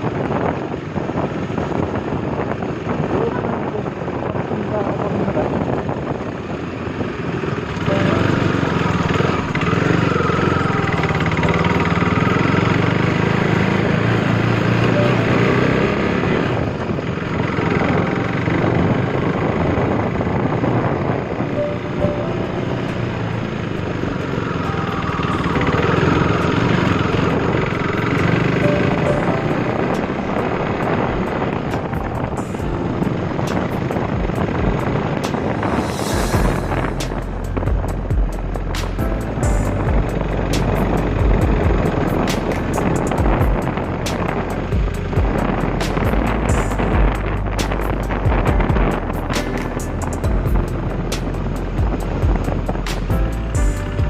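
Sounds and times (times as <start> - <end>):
motorcycle engine revving: 5.2 - 54.0.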